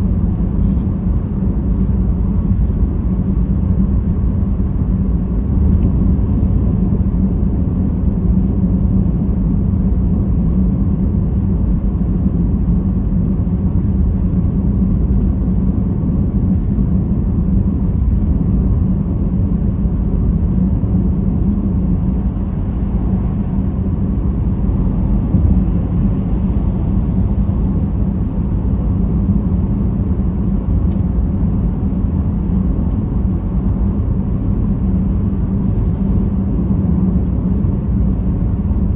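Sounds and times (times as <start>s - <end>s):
car engine and road noise: 0.0s - 38.9s
constant low hum: 0.0s - 38.9s.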